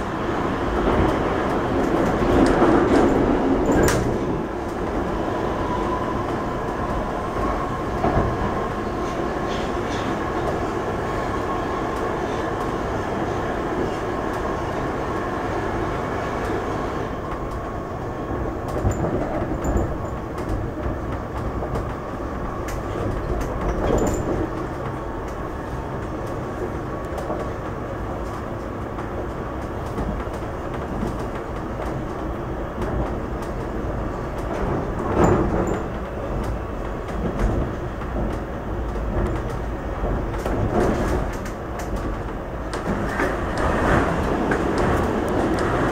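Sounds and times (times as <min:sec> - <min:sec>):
train clatters: 0:00.0 - 0:45.9
train wheels rumbling on rails: 0:00.0 - 0:45.9
whine of train running: 0:00.0 - 0:45.9.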